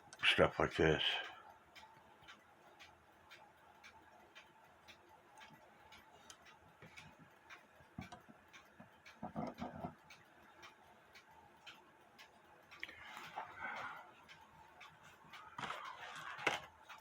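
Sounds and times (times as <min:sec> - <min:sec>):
alarm clock ticking: 0:00.0 - 0:17.0.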